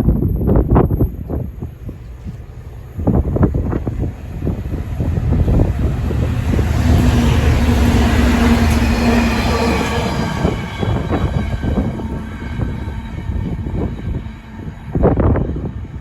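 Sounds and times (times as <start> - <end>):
diesel locomotive passing: 0.0 - 16.0.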